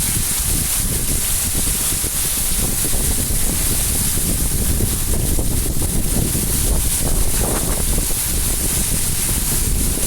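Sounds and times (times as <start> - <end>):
heavy rain hissing: 0.0 - 10.0
wind buffeting microphone: 0.0 - 10.0.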